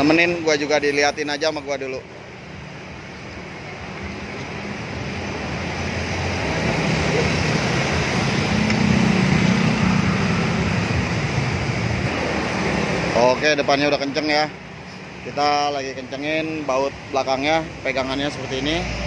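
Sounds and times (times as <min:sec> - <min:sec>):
vehicle engine and traffic rumble: 0:00.0 - 0:19.0.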